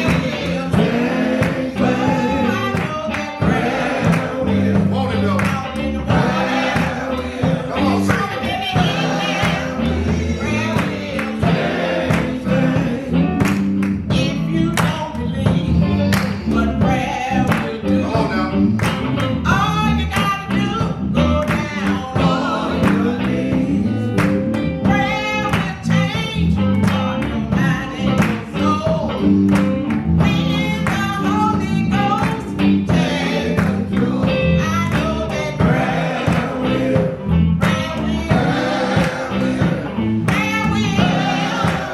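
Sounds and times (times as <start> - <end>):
band accompaniment: 0.0 - 41.9
choir singing gospel: 0.0 - 41.9
steady drum beat: 0.0 - 41.9.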